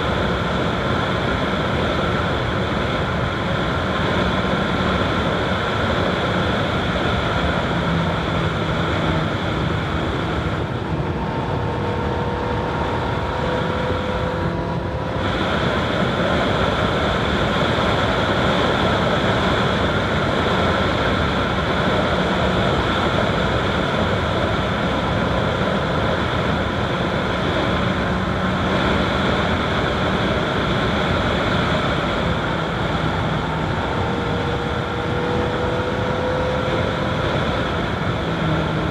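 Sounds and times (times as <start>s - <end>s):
wind noise: 0.0s - 38.9s.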